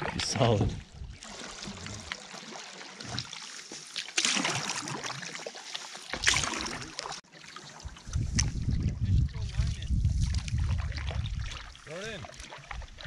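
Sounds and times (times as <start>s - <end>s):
canoe paddle strokes in water: 0.0s - 13.0s
water trickling off paddle: 0.0s - 13.0s.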